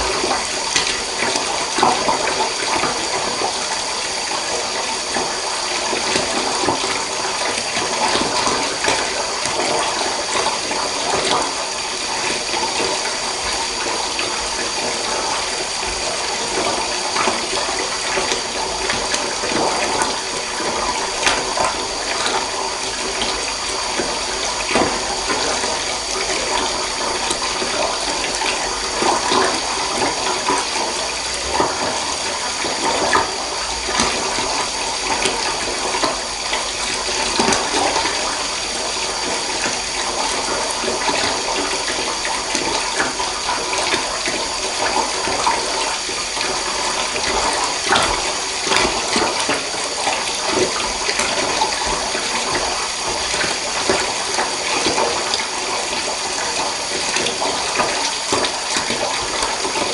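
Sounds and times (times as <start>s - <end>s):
small water splashes: 0.0s - 59.9s
water running into a bathtub: 0.0s - 59.9s.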